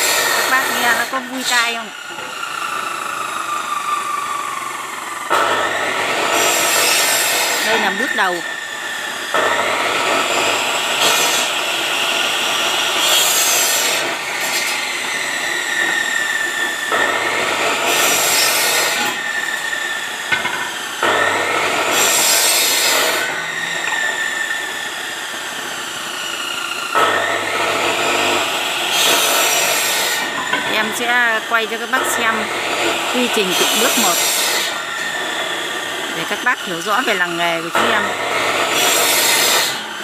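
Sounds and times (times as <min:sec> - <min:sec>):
saw motor whine: 0:00.0 - 0:40.0
saw rasping through bamboo: 0:00.0 - 0:40.0.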